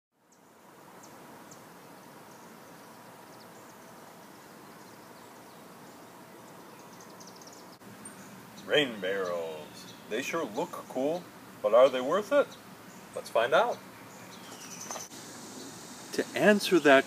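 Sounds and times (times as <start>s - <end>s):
steady background hiss: 0.2s - 17.0s.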